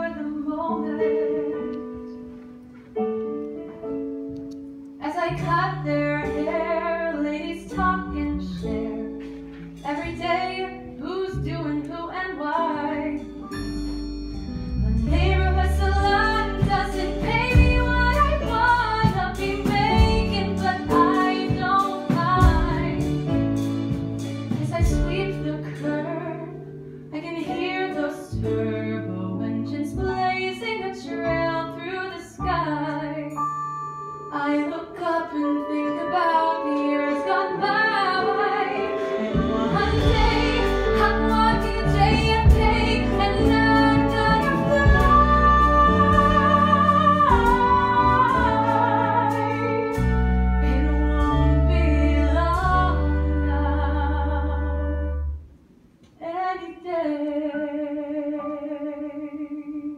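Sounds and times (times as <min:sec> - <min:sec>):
woman singing: 0:00.0 - 0:02.1, 0:05.0 - 0:09.2, 0:09.8 - 0:13.4, 0:15.0 - 0:23.0, 0:24.5 - 0:33.4, 0:34.2 - 0:55.1, 0:56.2 - 0:59.9
instrumental accompaniment: 0:00.0 - 0:56.2.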